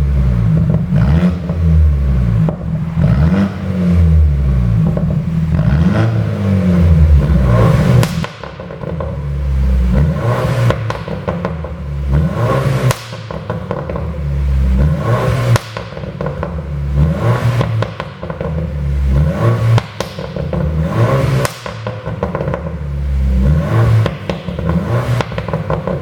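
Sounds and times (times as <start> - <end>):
car engine revving: 0.0 - 26.0
exhaust crackles and pops: 0.0 - 26.0.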